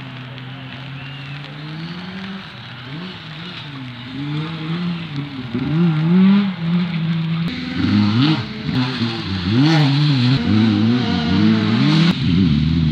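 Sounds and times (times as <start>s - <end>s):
rally car engine revving: 0.0s - 12.9s.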